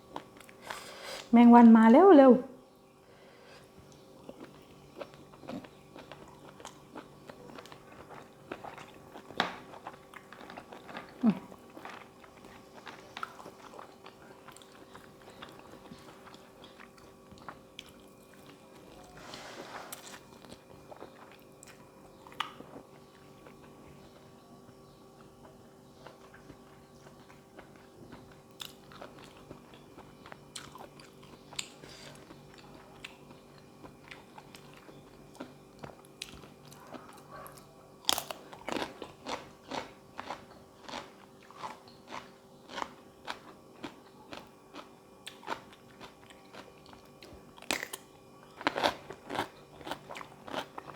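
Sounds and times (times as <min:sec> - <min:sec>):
faint steady hum: 0:00.0 - 0:50.9
crunchy chewing: 0:03.5 - 0:50.9.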